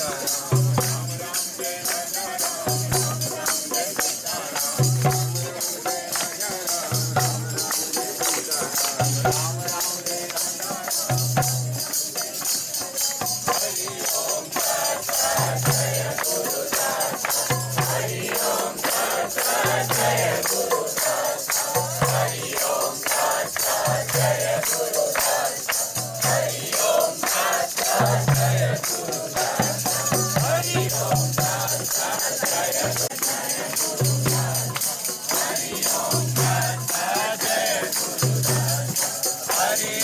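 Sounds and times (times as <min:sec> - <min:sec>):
jingling hand percussion: 0:00.0 - 0:40.0.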